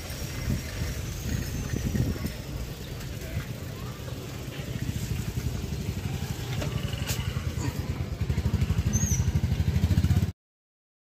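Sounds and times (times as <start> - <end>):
vehicle engine pulsing: 0.0 - 10.3.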